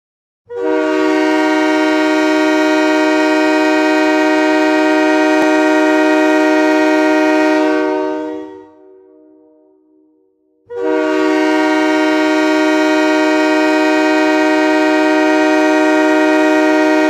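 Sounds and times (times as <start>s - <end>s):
hockey goal horn: 0.5s - 10.0s, 10.6s - 17.0s.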